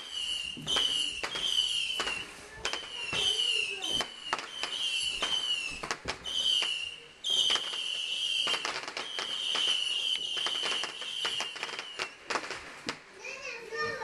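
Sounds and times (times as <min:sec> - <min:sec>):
firework whistle: 0:00.0 - 0:13.0
crackling firework pops: 0:00.0 - 0:13.2.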